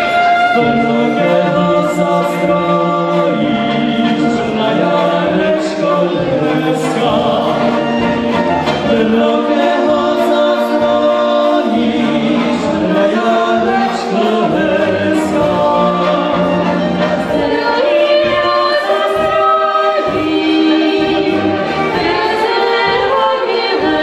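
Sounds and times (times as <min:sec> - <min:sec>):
brass band playing: 0:00.0 - 0:24.0
men singing into microphones: 0:00.0 - 0:24.0
tubas on bass line: 0:00.0 - 0:24.0.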